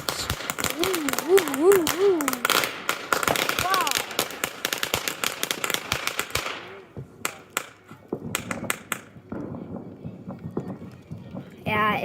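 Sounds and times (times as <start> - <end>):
loud firework cracks: 0.0 - 11.7
fireworks crackling: 0.0 - 12.0.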